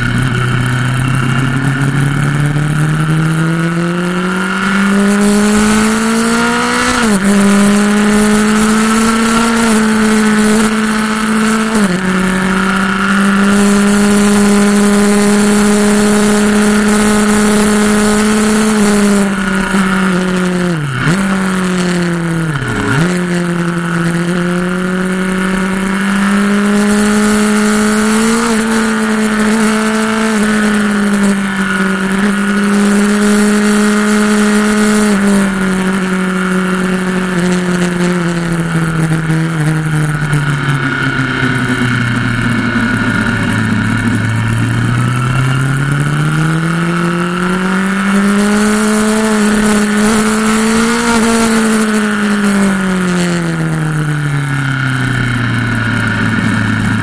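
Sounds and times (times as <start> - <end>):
motorcycle engine at speed: 0.0 - 57.0.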